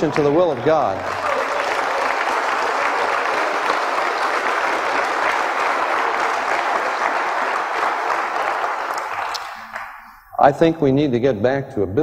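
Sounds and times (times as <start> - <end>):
congregation applauding: 0.0 - 10.3.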